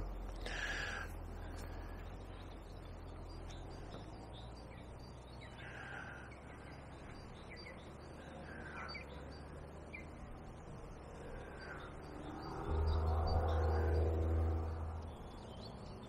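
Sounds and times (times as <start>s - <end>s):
low steady background rumble: 0.0s - 16.0s
wild birds calling: 0.0s - 16.0s.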